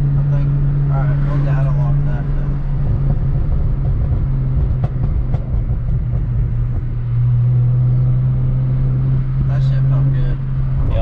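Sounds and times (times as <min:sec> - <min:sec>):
car engine drone in cabin: 0:00.0 - 0:11.0.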